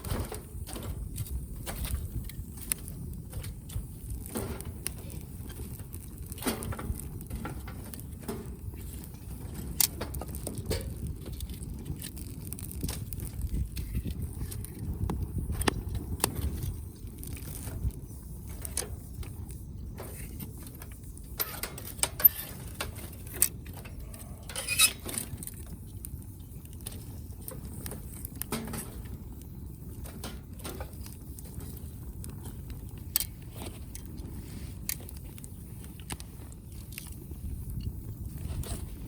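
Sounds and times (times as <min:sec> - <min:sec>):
fire rumbling: 0:00.0 - 0:39.0
firewood popping and crackling: 0:00.0 - 0:39.0.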